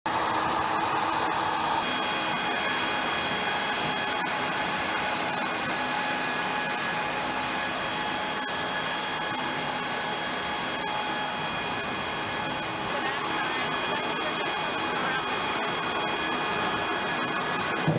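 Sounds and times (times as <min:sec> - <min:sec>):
high whining tones: 0:00.1 - 0:17.9
jet turbine roaring: 0:00.1 - 0:17.9.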